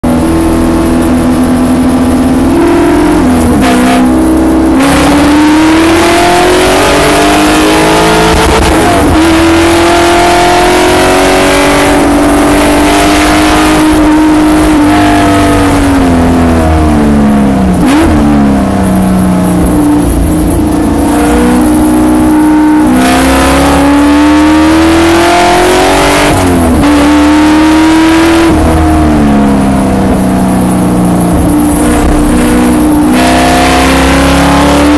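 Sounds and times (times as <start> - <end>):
racing engine revving: 0.0 - 34.9.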